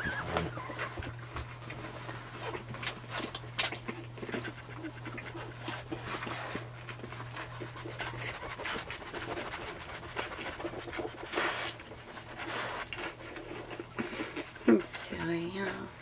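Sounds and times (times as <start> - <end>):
puppies snuffling and suckling: 0.0 - 16.0.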